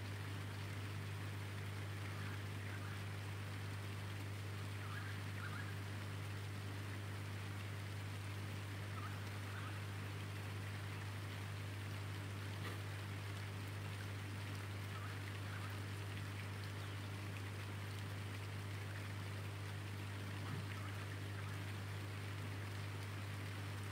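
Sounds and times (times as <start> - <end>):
rain on tarpaulin and paving: 0.0 - 23.9.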